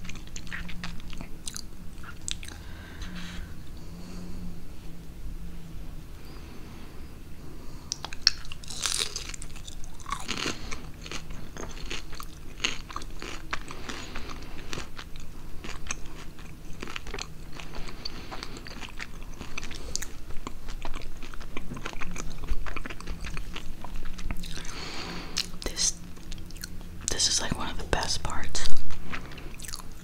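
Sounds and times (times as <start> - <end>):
chewing crispy pork skin: 0.0 - 3.5, 7.9 - 27.2, 28.6 - 30.0.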